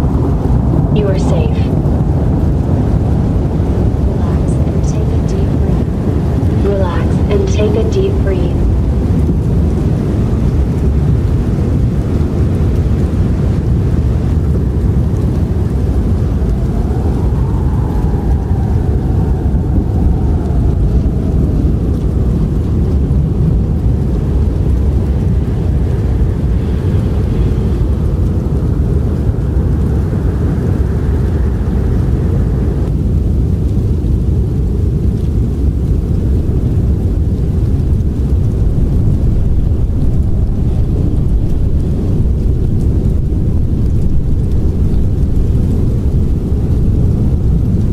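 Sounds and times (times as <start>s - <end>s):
blizzard wind howling: 0.0s - 47.9s.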